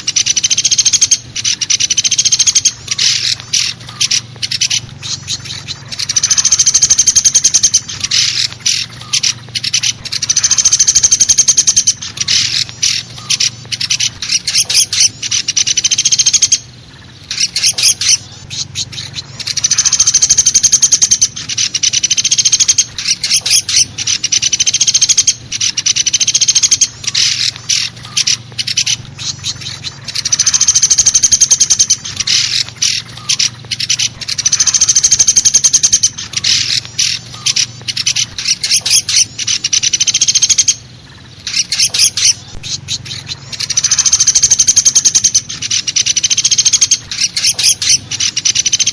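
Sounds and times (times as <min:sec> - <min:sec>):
woodpecker rattling trills: 0:00.0 - 0:48.9
woodpecker sharp single calls: 0:00.0 - 0:48.9.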